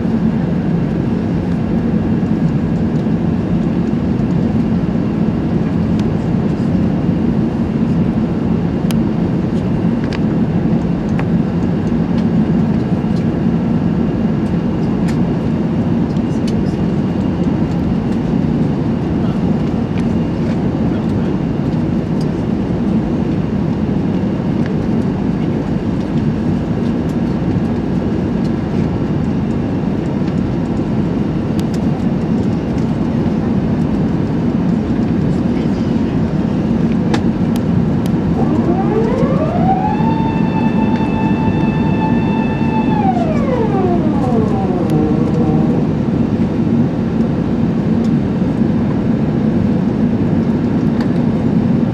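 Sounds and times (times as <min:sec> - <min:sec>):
aircraft cabin engine noise: 0:00.0 - 0:51.9.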